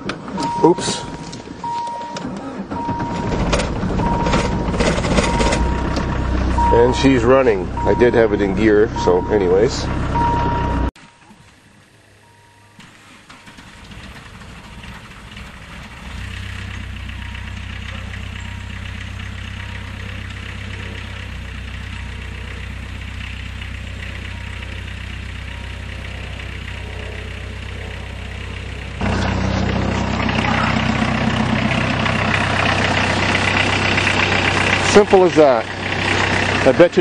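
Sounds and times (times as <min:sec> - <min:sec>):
diesel engine idling: 0:00.0 - 0:10.9, 0:11.5 - 0:37.0.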